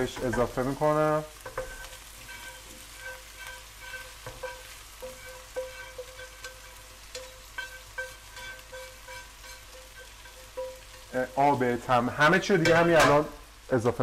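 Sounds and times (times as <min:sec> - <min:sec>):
fish sizzling in oil: 0:00.0 - 0:14.0
spices crackling in oil: 0:00.0 - 0:14.0.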